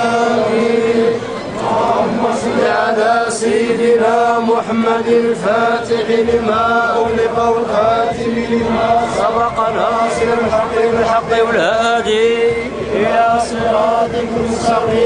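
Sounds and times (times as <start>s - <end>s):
men chanting a religious refrain: 0.0s - 15.0s.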